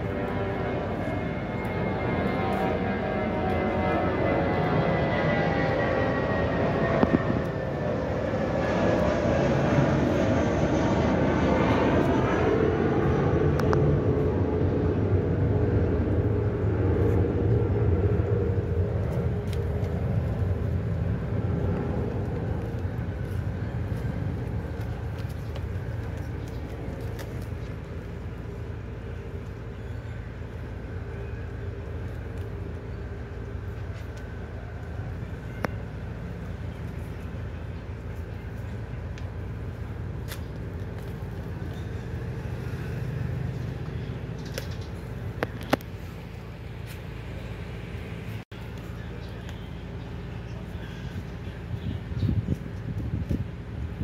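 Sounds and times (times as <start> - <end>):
engine rumble: 0.0 - 54.0.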